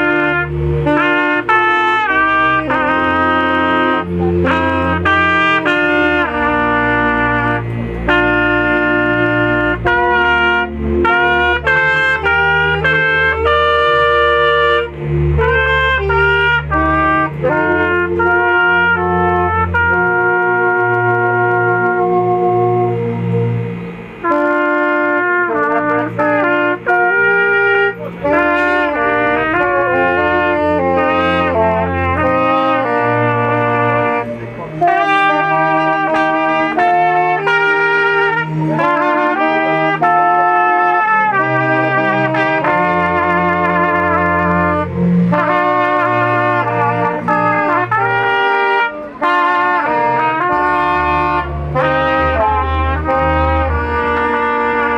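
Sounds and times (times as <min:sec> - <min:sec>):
bass accompaniment: 0:00.0 - 0:54.9
trumpet playing slow melody: 0:00.0 - 0:54.9.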